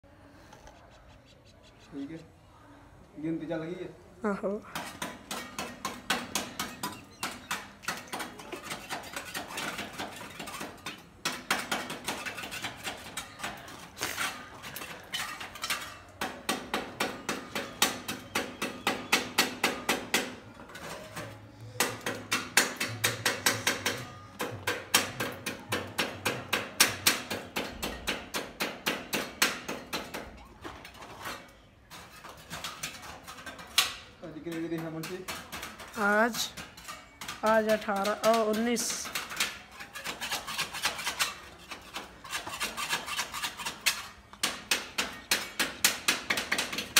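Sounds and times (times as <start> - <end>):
hand scraper on metal frame: 4.7 - 46.9.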